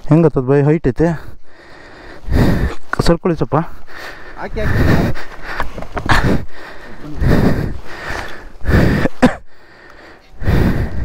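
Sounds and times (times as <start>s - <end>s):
people breathing heavily and gasping: 1.0s - 3.0s, 3.6s - 11.0s.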